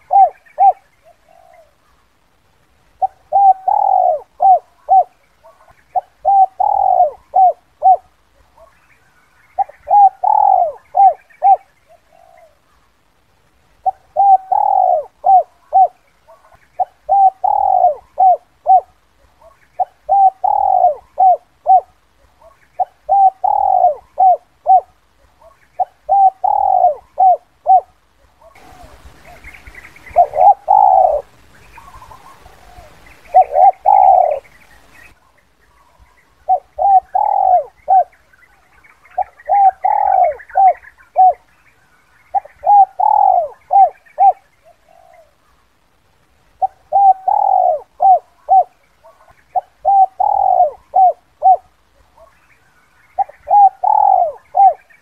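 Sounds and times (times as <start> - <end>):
dove cooing: 0.0 - 2.0, 3.0 - 12.9, 13.8 - 41.6, 42.2 - 45.6, 46.6 - 52.4, 53.0 - 55.0
faint hiss: 0.0 - 55.0.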